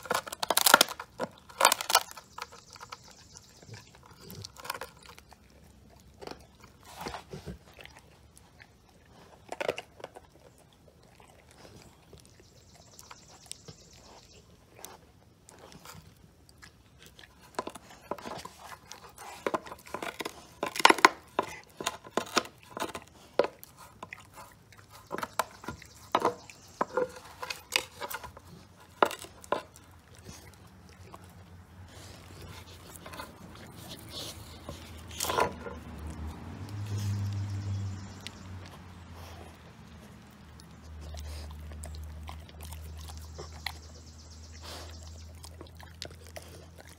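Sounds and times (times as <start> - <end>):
dog gnawing and crunching bone: 0.0 - 46.9.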